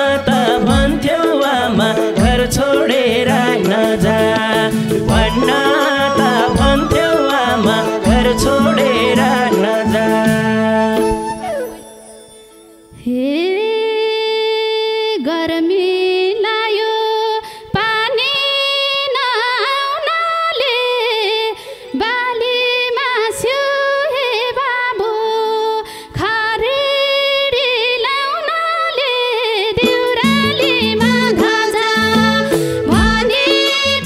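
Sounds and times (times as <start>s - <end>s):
woman singing folk melody: 0.0s - 11.8s, 13.0s - 34.0s.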